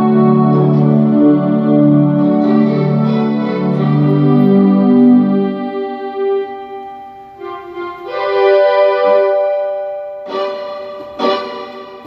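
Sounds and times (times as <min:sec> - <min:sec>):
synthesizer chords: 0:00.0 - 0:12.0.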